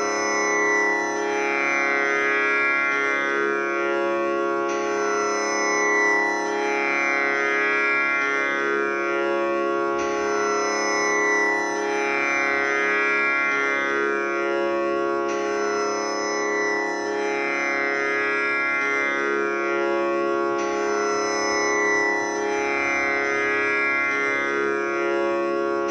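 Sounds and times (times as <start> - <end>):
tanpura drone: 0.0 - 25.9.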